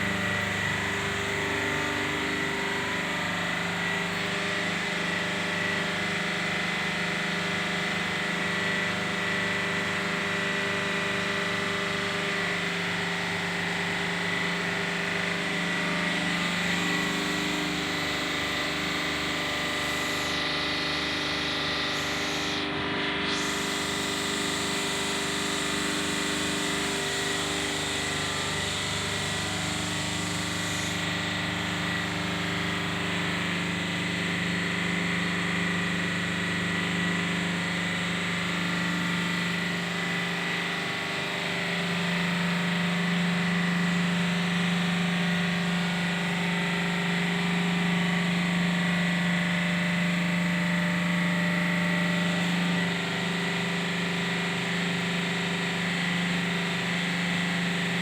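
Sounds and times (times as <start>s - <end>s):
motor humming with high whine: 0.0s - 58.0s.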